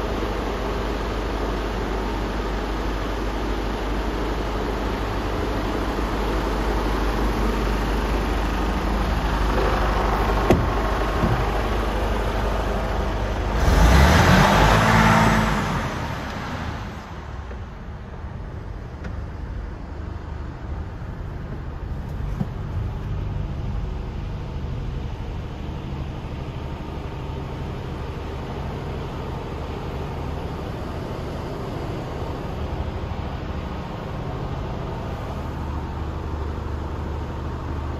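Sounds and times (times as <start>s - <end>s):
diesel truck idling: 0.0s - 37.9s.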